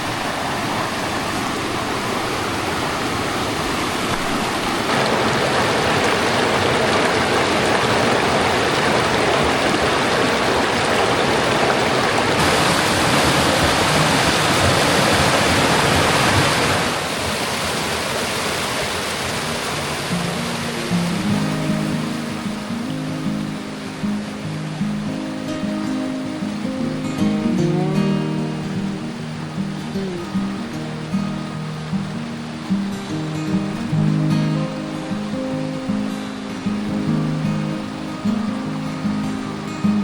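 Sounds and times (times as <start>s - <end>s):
creek water rushing over rocks: 0.0s - 40.0s.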